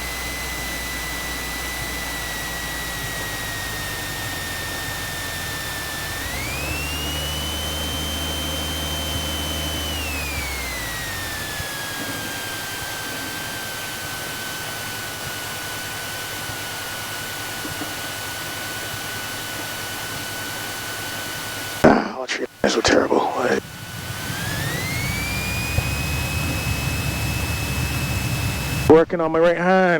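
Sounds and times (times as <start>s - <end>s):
light aircraft engine droning: 0.0s - 29.4s.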